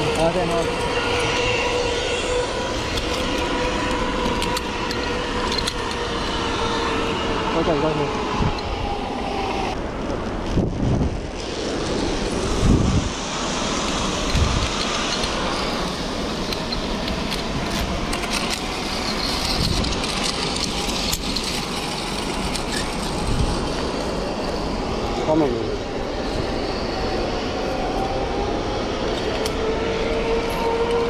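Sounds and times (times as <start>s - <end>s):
wind rushing over microphone: 0.0s - 31.0s
zipline trolley running on cable: 0.0s - 31.0s.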